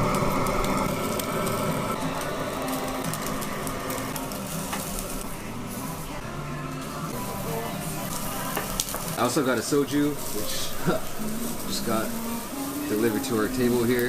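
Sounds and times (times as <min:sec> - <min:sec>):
meat sizzling on a grill: 0:00.0 - 0:14.0
restaurant background noise: 0:00.0 - 0:14.0.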